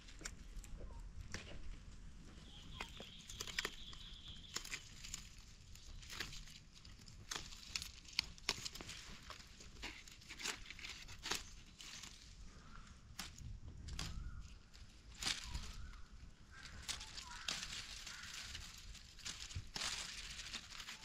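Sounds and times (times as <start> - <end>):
leaves and twigs crackling: 0.0 - 21.0.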